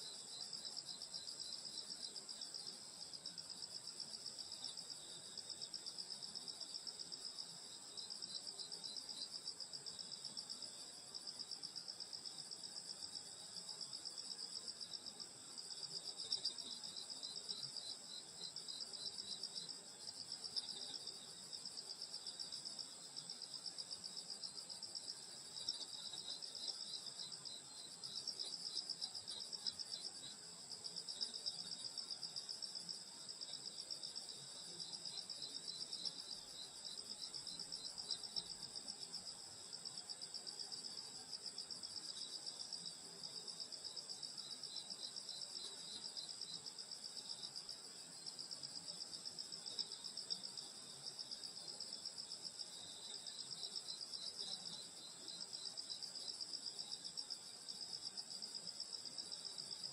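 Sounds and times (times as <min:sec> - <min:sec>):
rapid pulsing insect chirp: 0:00.0 - 0:59.9.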